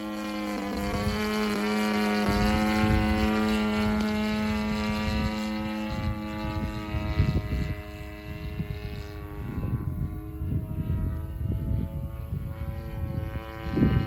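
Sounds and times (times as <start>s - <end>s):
model plane engine running: 0.0s - 14.0s
wind buffeting microphone: 0.0s - 14.0s.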